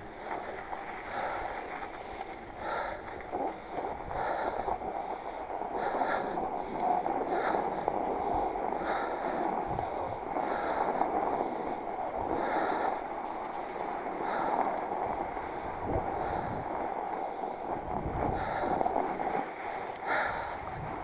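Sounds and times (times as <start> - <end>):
bike tyres rolling through snow: 0.0 - 21.0
wind on microphone: 0.0 - 21.0.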